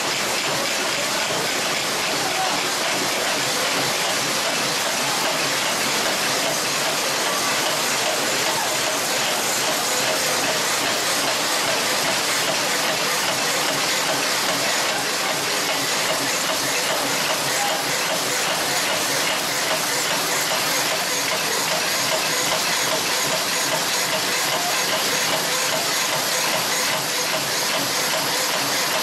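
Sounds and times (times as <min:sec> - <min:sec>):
factory machinery din: 0:00.0 - 0:29.0.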